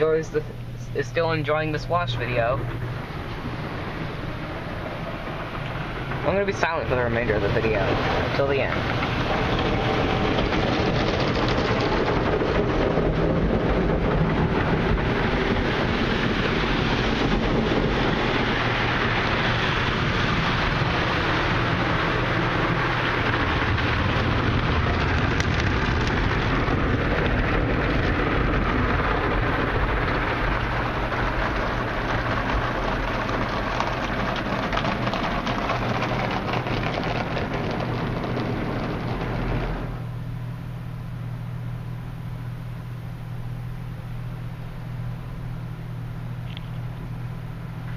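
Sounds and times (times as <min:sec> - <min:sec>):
car wash spray and brushes: 0:00.0 - 0:40.5
low hum: 0:00.0 - 0:47.9.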